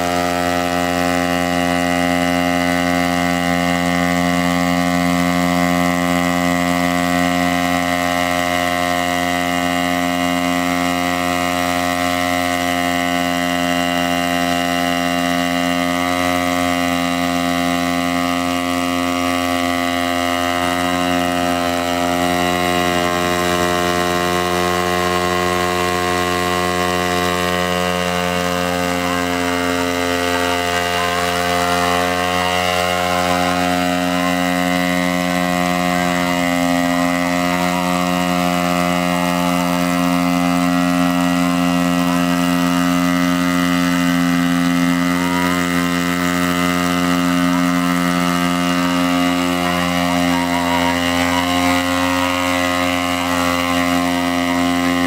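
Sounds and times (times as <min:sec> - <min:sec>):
drone engine running: 0:00.0 - 0:55.0
propellers whirring: 0:00.0 - 0:55.0.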